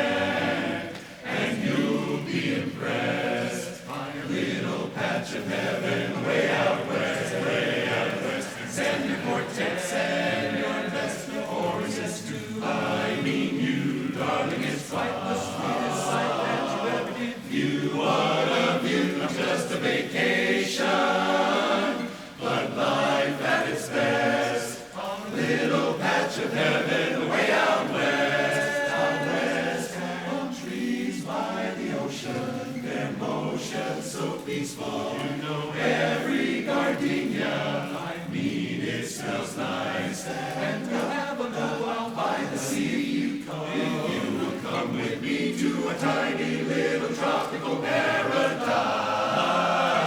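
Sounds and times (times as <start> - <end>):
barbershop chorus singing a cappella: 0.0 - 50.0.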